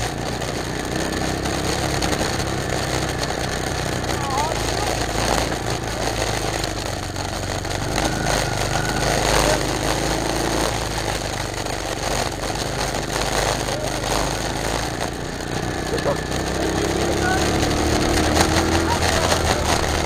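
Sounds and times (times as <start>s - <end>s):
small motorbike engine running: 0.0s - 20.0s.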